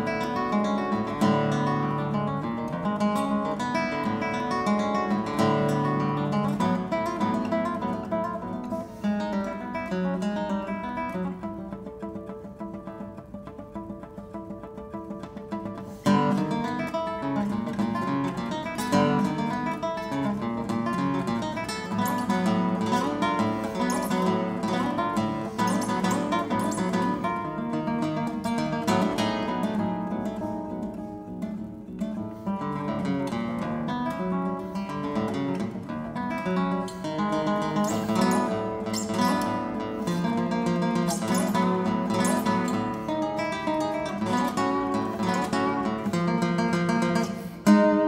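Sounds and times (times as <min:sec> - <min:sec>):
classical guitar plucked notes: 0:00.0 - 0:48.0.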